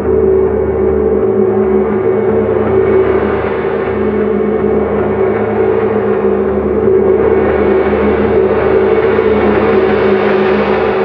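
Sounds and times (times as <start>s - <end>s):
wind gong wash: 0.0s - 11.0s.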